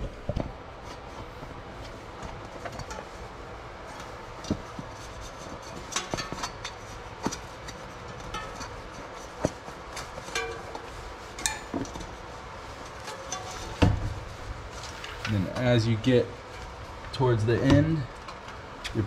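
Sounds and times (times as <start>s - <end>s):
tire bead clicks and knocks: 0.0s - 19.0s.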